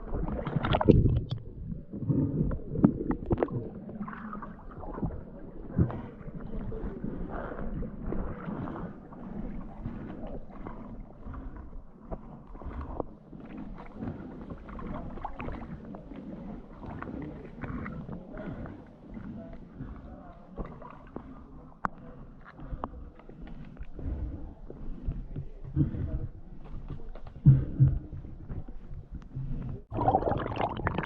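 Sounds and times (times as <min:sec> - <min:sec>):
muffled water sloshing: 0:00.0 - 0:31.0.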